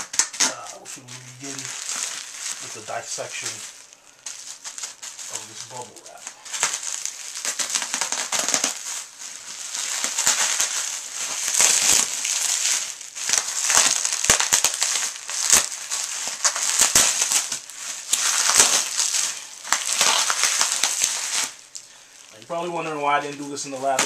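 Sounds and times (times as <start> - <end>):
bubble wrap cracks: 0.0 - 24.0
bubble wrap crinkling: 0.0 - 24.0.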